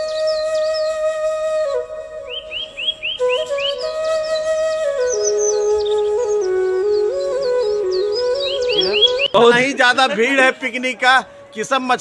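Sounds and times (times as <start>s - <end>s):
slow melody in held notes: 0.0s - 12.0s.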